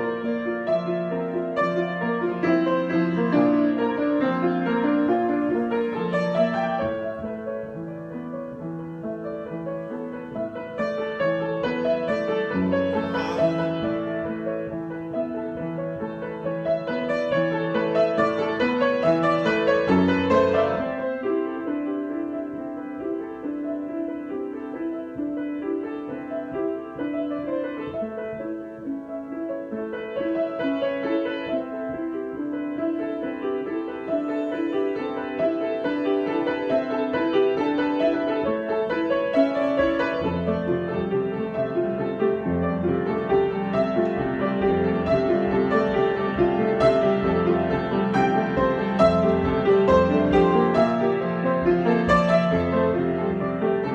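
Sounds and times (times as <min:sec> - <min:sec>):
solo piano: 0:00.0 - 0:53.9.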